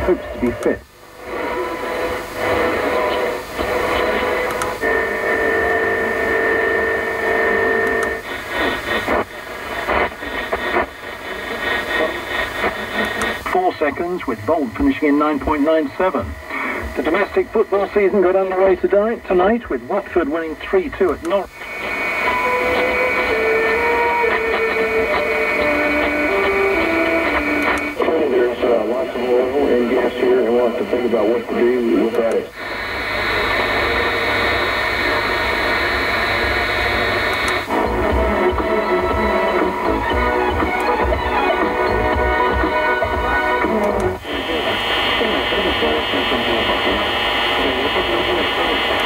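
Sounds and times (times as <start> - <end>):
radio static and crackle: 0.0 - 49.0.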